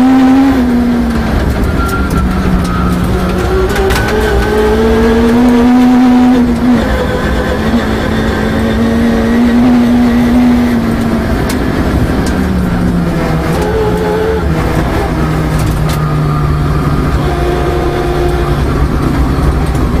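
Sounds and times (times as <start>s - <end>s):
rally car engine: 0.0s - 20.0s.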